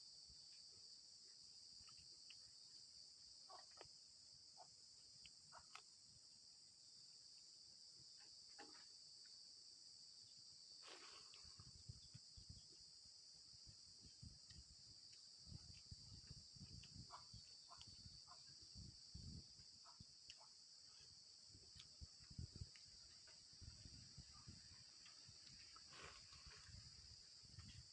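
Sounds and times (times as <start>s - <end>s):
crickets chirping: 0.0s - 27.9s.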